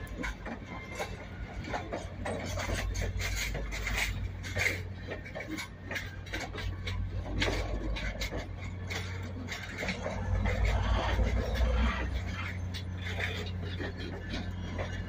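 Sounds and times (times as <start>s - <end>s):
train wheels rumbling on rail: 0.0s - 15.0s
wheels squealing against rails: 0.0s - 15.0s.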